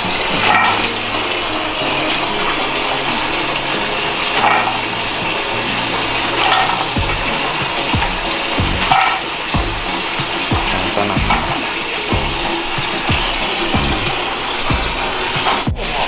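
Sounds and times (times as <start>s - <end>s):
water sloshing in basins: 0.0s - 16.0s.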